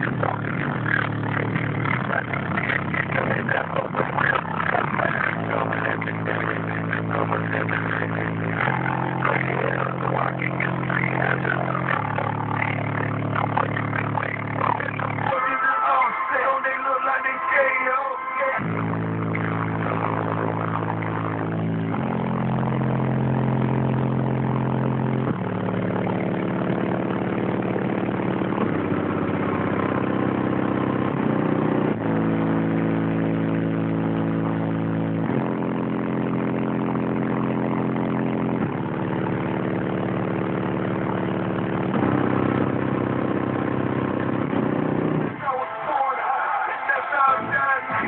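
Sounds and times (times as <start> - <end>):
bass-heavy music from car stereo: 0.0 - 48.0.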